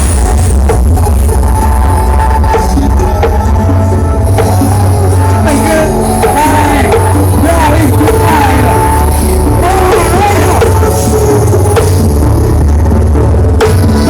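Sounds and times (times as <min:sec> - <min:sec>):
loud music with heavy sub-bass: 0:00.0 - 0:14.0
melody of gliding notes: 0:00.0 - 0:14.0.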